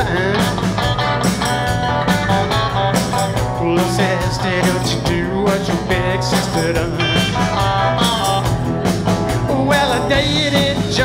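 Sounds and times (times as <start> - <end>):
bass guitar: 0.0 - 11.0
electric guitars: 0.0 - 11.0
steady drum beat: 0.0 - 11.0.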